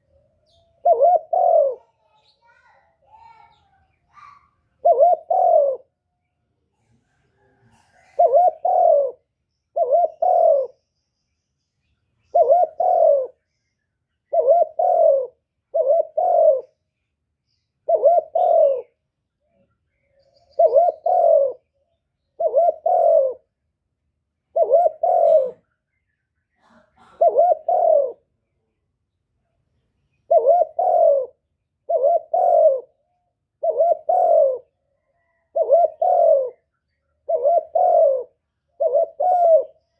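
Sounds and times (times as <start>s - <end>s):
bird cooing: 0.0s - 10.9s, 12.2s - 16.9s, 17.5s - 23.6s, 24.4s - 25.9s, 26.5s - 28.3s, 30.2s - 39.9s.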